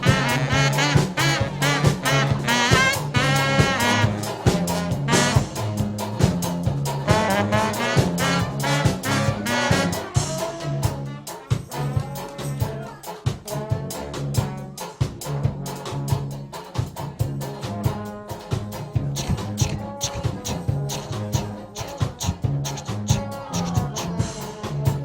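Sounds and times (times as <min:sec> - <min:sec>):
brass band playing lively tune: 0:00.0 - 0:25.0.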